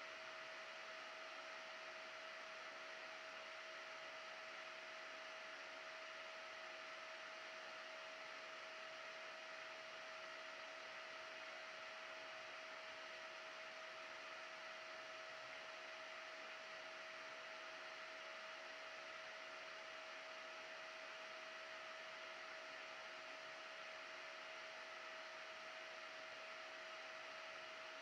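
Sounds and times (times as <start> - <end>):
small cooling fan whirring: 0.0 - 28.0.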